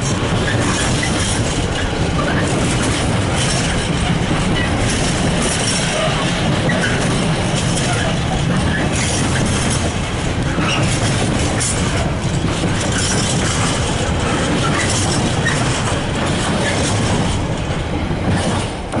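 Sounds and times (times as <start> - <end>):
train wheels rumbling on rail: 0.0 - 19.0
wheels clicking over rail joints: 0.0 - 19.0.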